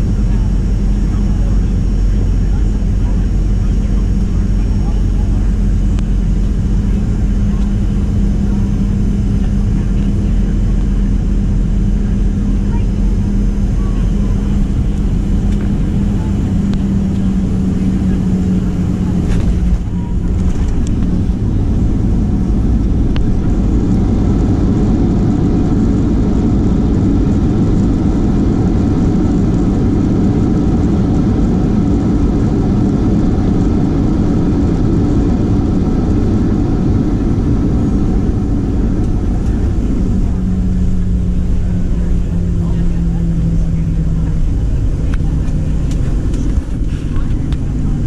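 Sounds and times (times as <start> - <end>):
jet engine cabin rumble: 0.0 - 48.0.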